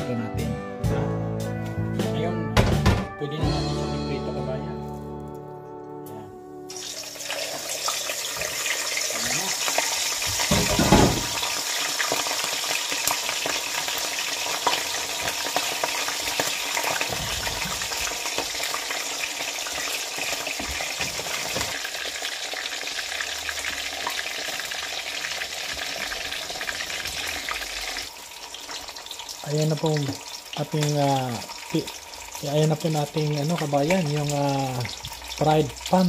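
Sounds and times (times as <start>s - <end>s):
fish sizzling in hot oil: 6.7s - 36.0s.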